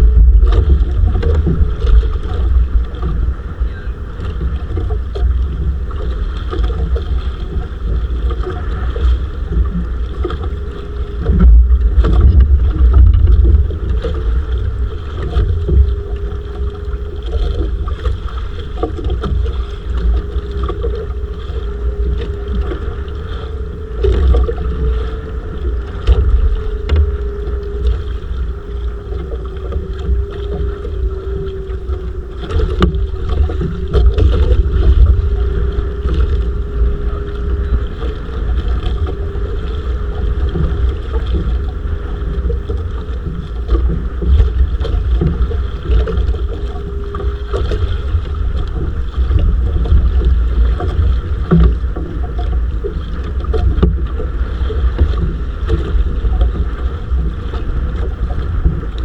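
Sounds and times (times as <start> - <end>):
steady mid-pitched drone: 0.0 - 59.0
wind buffeting microphone: 0.0 - 59.0.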